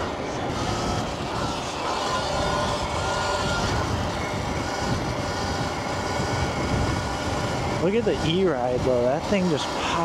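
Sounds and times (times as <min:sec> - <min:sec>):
faint thin motor whine: 0:00.0 - 0:10.0
road rumble: 0:00.0 - 0:10.0
wind rushing on microphone: 0:00.0 - 0:10.0.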